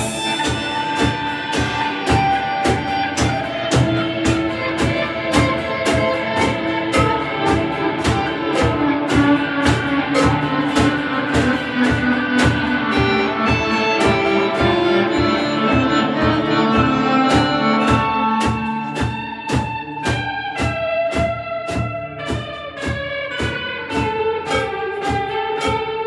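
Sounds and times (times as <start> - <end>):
drum kit steady beat: 0.0 - 26.0
electric guitars: 0.0 - 26.0.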